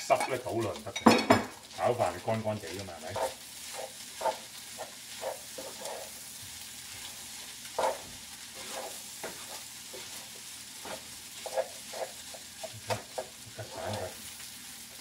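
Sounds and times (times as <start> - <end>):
rice sizzling in pan: 0.0 - 15.0
spatula scraping and knocking pan: 0.1 - 14.3.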